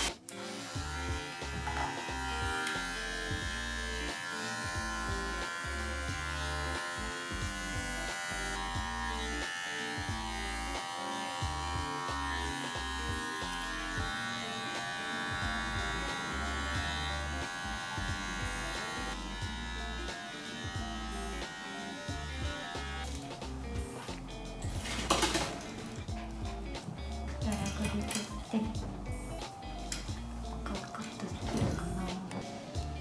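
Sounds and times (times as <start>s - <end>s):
electric clippers buzzing: 0.0s - 26.5s
background music: 0.0s - 33.0s.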